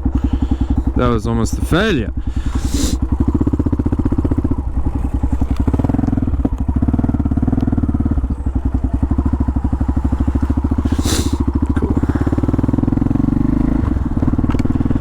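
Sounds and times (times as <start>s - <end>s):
motorcycle engine puttering: 0.0s - 15.0s.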